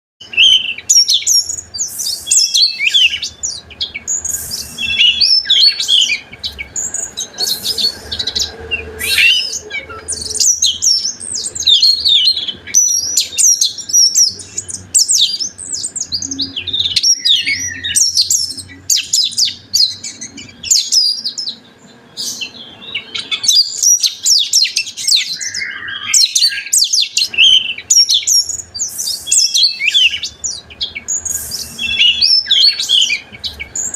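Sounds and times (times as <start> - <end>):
bird singing varied whistles: 0.2 - 21.6, 22.2 - 33.9.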